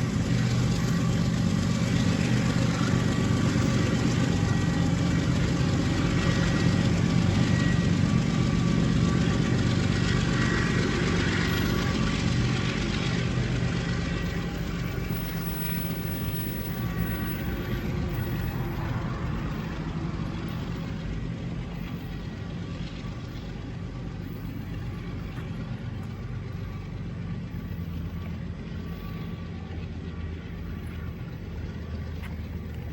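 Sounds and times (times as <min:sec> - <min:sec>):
diesel locomotive engine humming: 0:00.0 - 0:32.9.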